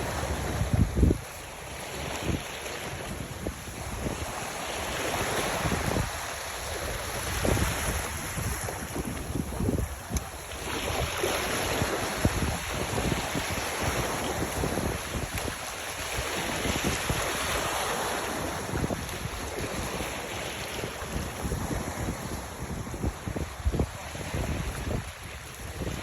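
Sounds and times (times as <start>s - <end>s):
waves rushing: 0.0s - 26.0s
wind buffeting microphone: 0.0s - 26.0s.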